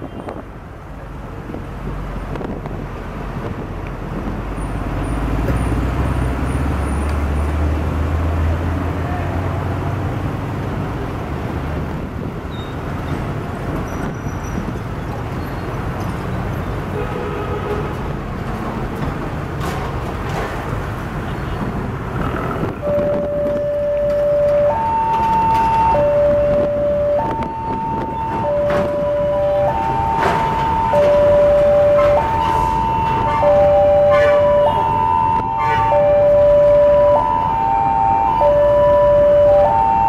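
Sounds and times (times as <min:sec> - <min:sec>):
heavy truck engine rumbling: 0:00.0 - 0:40.0
road traffic passing: 0:00.0 - 0:40.0.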